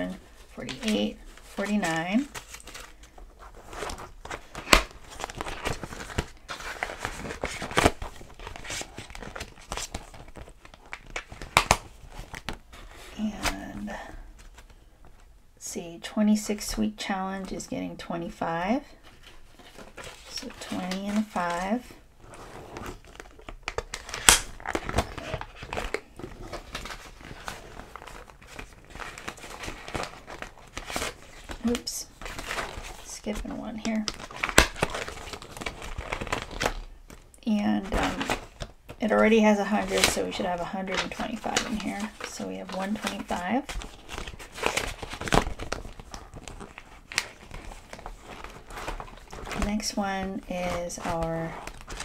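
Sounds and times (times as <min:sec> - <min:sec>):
plastic crinkling and rustling: 0:00.0 - 0:13.5, 0:19.0 - 0:52.0.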